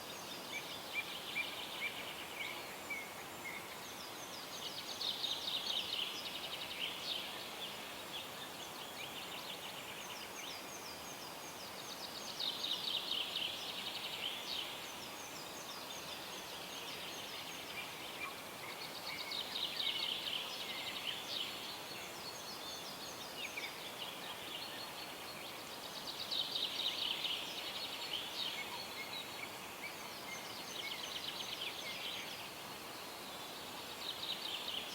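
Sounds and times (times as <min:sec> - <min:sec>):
outdoor background hiss: 0:00.0 - 0:34.9.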